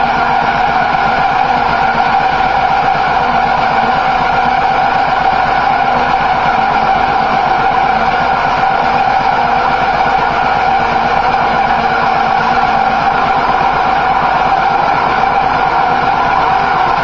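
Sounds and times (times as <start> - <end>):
air tool whining: 0.0 - 17.0.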